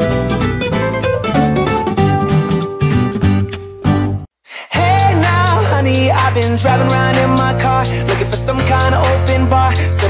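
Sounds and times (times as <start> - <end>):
upbeat pop song: 0.0 - 10.0.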